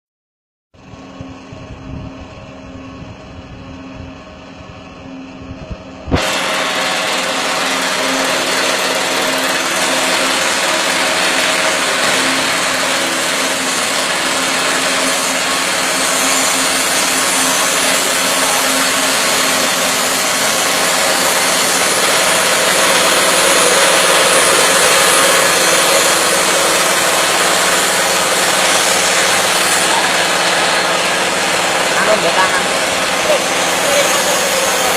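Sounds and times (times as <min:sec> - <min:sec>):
shredding machine whirring: 0:00.8 - 0:34.9
steady hum: 0:00.8 - 0:34.9.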